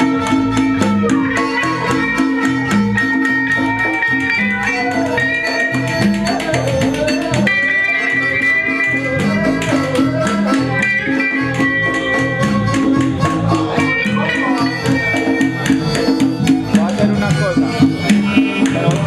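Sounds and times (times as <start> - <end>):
bass: 0.0 - 19.0
congas and hand percussion: 0.0 - 19.0
guitars: 0.0 - 19.0
keyboards: 0.0 - 19.0.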